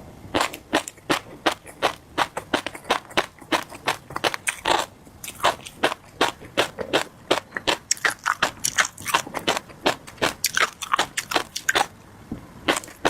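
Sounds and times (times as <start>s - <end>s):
fish roe crunching when chewed: 0.4s - 12.0s, 12.6s - 13.0s.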